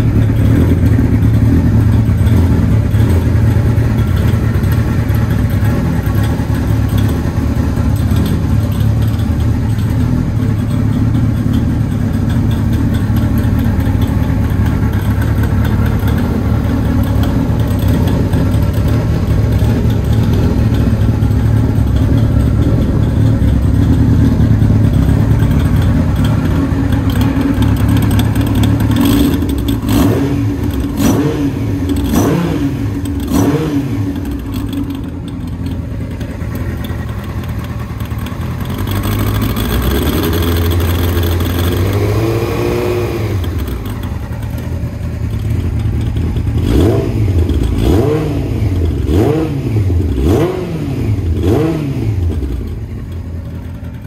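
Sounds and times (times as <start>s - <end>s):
motorcycle engine idling: 0.0s - 54.0s
motorcycle throttle blips: 0.0s - 54.0s.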